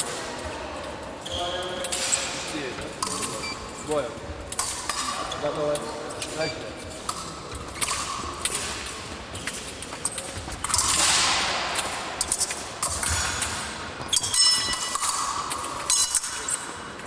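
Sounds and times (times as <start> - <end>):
fencing blades clashing: 1.8 - 17.0.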